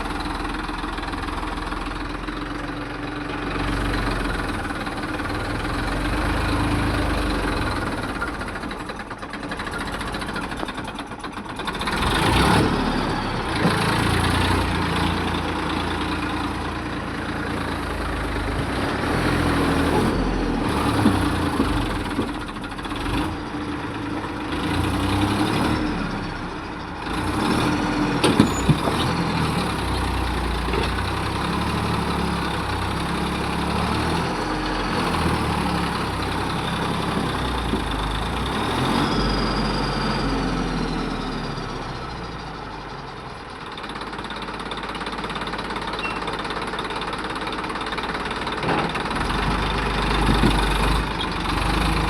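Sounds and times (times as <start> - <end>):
tractor engine revving: 0.0 - 42.9, 43.5 - 52.0.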